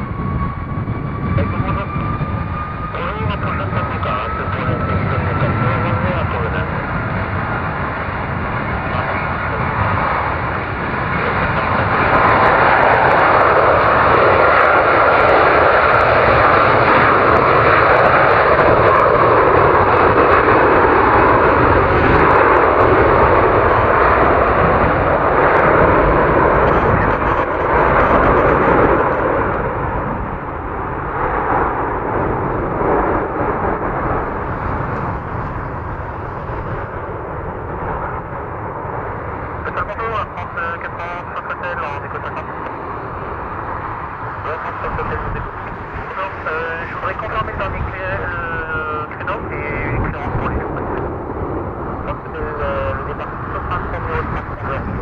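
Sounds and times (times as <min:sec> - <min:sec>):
jet engine roar: 0:00.0 - 0:55.0.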